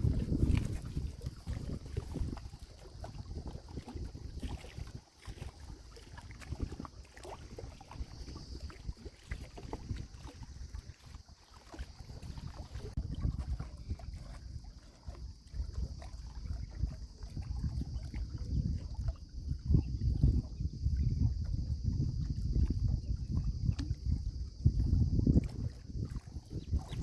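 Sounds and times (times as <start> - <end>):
small water sounds: 0.0 - 27.0
wind buffeting microphone: 0.0 - 27.0.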